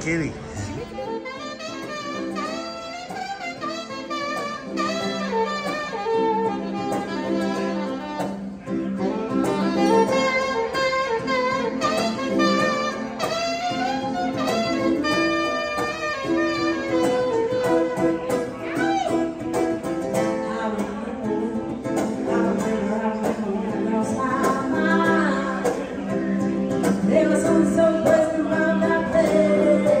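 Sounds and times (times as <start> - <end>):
acoustic guitar accompanying: 0.0 - 30.0
saxophone jazzy melody: 0.6 - 30.0.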